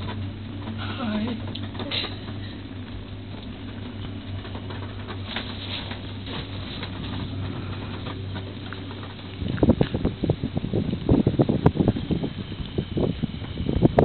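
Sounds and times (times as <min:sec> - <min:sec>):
rain pattering on cabin: 0:00.0 - 0:14.0
steady low hum: 0:00.0 - 0:14.0.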